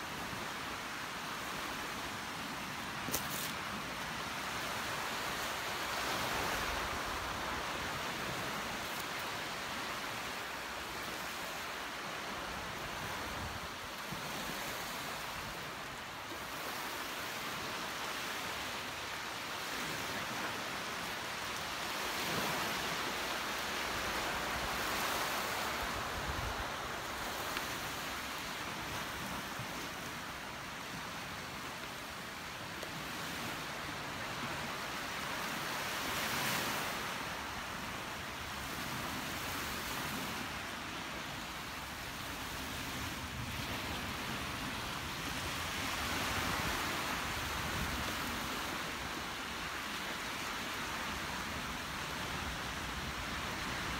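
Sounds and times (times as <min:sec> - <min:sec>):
small waves on a beach: 0:00.0 - 0:53.9.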